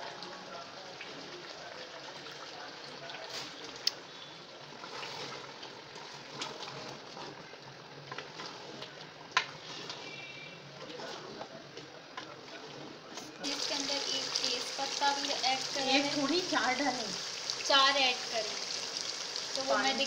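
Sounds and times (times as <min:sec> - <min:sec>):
meat sizzling and bubbling in a pot: 0:00.0 - 0:20.0.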